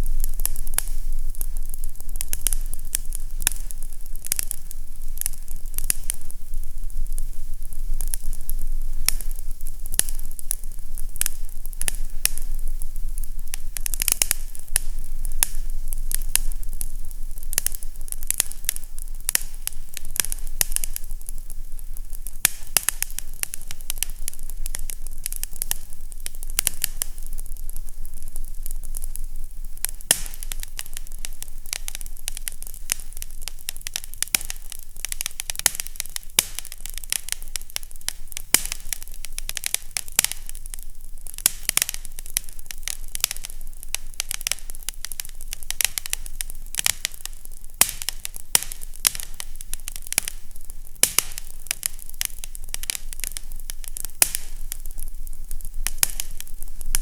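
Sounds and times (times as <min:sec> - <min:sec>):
fire crackling: 0:00.0 - 0:57.0
low steady hum: 0:00.0 - 0:57.0.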